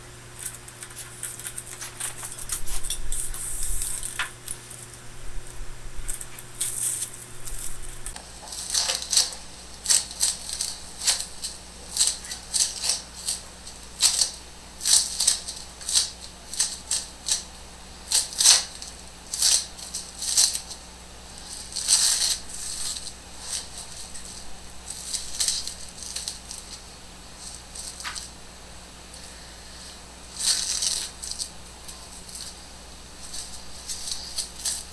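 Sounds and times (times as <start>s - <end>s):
aluminium foil crinkling: 0.0s - 28.4s, 29.1s - 34.9s.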